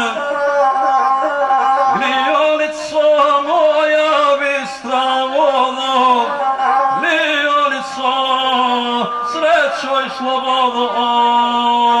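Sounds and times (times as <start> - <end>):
man chanting a song: 0.0 - 12.0.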